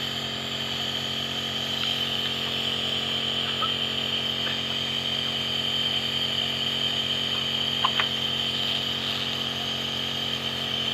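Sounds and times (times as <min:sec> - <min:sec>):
nebulizer humming: 0:00.0 - 0:10.9.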